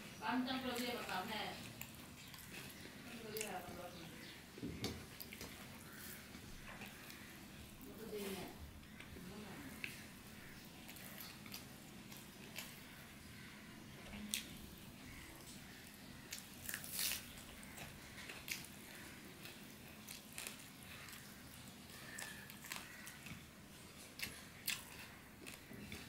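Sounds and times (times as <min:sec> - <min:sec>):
fingers squishing through rice: 0:00.0 - 0:26.0
chewing and lip-smacking: 0:00.7 - 0:07.8, 0:08.8 - 0:26.0.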